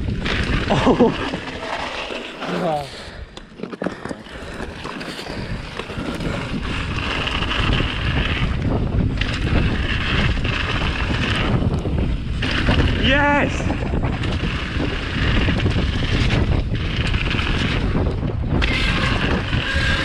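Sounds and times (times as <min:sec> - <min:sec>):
wind rushing over microphone: 0:00.0 - 0:03.4, 0:04.3 - 0:20.0
bike tyres rolling on dirt: 0:00.0 - 0:20.0.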